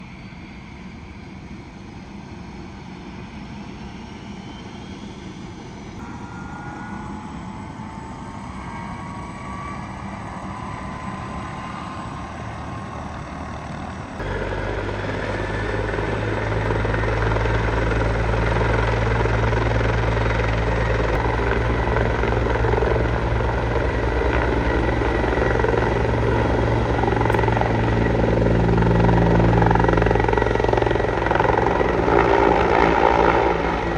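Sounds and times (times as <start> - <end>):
helicopter rotor noise: 0.0 - 33.9
helicopter turbine whine: 0.0 - 33.9.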